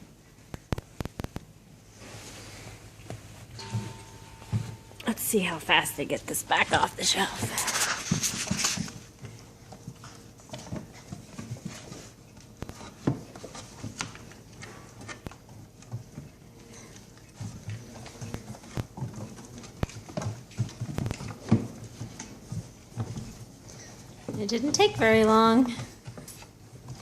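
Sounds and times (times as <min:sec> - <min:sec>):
puppy paws scrabbling: 0:03.0 - 0:27.0.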